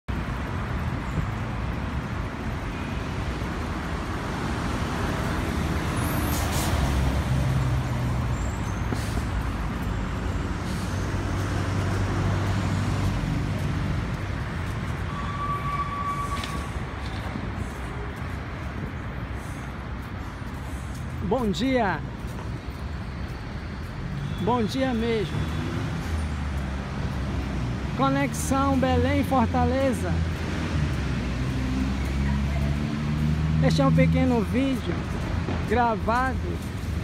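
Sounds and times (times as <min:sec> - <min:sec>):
vehicle engines passing: 0:00.1 - 0:37.0.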